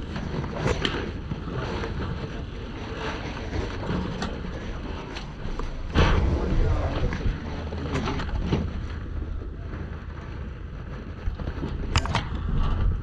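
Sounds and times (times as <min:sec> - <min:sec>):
steady low rumble: 0:00.0 - 0:13.0
wind buffeting microphone: 0:00.0 - 0:13.0.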